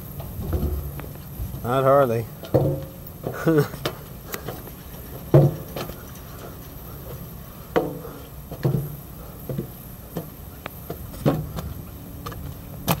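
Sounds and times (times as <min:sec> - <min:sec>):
footsteps on metal stairs: 0:00.0 - 0:13.0.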